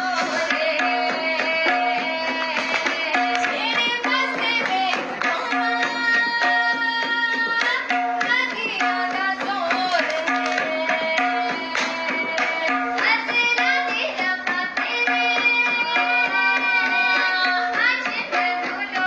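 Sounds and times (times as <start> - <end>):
person singing: 0.0 - 19.0
tabla drumming: 0.0 - 19.0.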